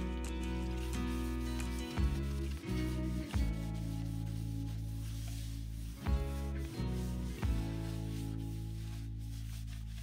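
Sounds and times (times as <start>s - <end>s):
instrumental chords over bass: 0.0s - 9.9s.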